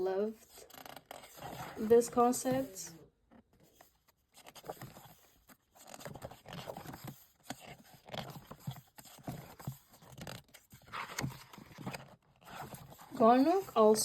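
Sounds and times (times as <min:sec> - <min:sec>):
book pages turning and rustling: 0:00.2 - 0:14.0.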